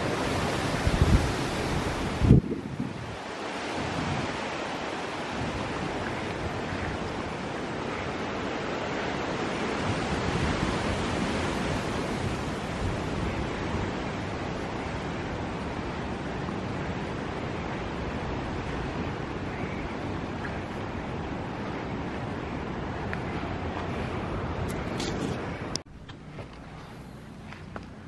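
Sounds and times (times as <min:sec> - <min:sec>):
strong wind rushing: 0:00.0 - 0:25.8
wind buffeting microphone: 0:00.0 - 0:28.0.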